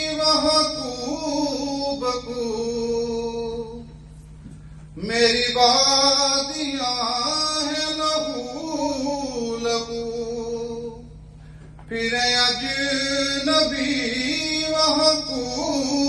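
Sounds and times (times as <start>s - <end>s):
man singing into microphone: 0.0s - 3.9s, 5.0s - 11.1s, 11.9s - 16.0s.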